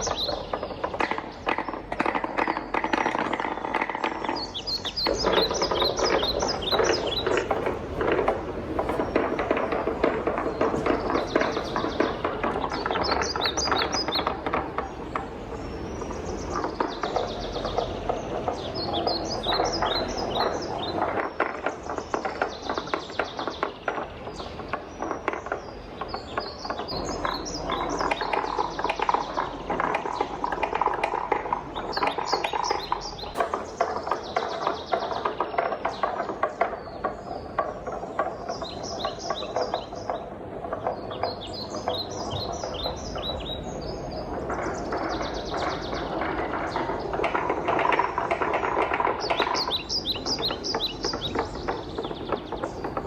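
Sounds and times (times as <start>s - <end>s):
wooden balls clacking: 0.0s - 53.0s
wooden balls rolling: 0.0s - 53.0s.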